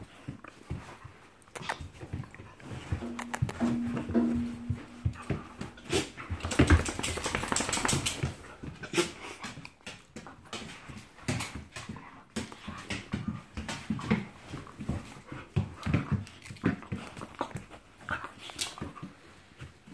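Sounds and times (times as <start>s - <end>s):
rustling of fur and clothing: 0.0s - 19.9s.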